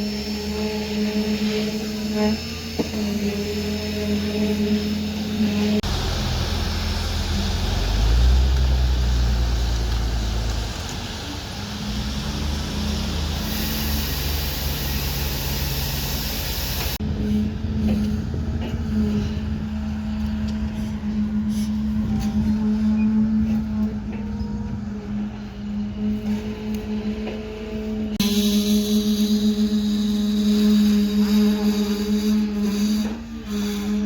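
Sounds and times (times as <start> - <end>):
excavator diesel engine running: 0.0 - 33.4.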